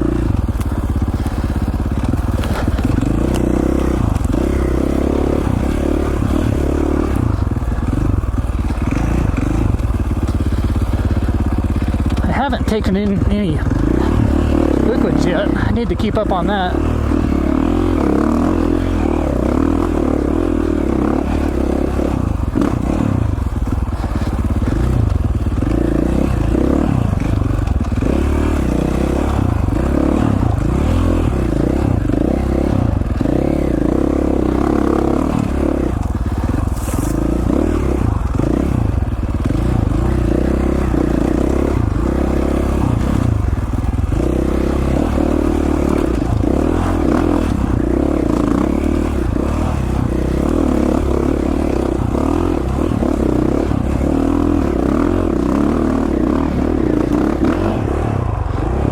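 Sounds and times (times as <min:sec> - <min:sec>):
scraping and clattering on trail: 0:00.0 - 0:58.8
dirt bike engine revving: 0:00.0 - 0:58.9.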